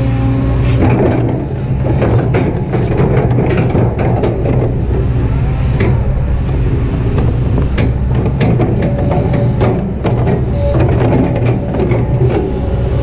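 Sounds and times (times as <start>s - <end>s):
excavator diesel engine: 0.0s - 13.0s
clanks from digging gear: 0.6s - 13.0s.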